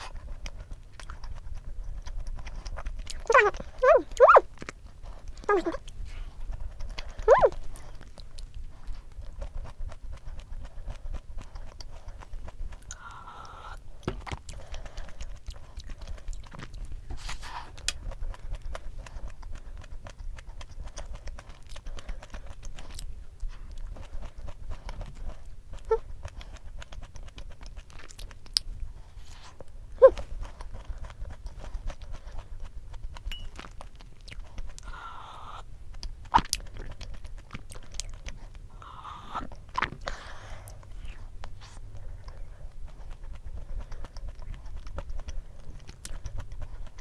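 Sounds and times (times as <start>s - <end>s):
chewing cookie with wet clicks: 0.0s - 47.0s.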